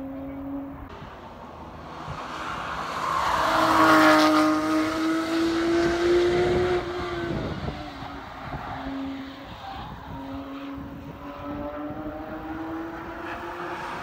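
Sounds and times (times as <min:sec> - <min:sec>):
race car engine passing at speed: 0:00.0 - 0:14.0.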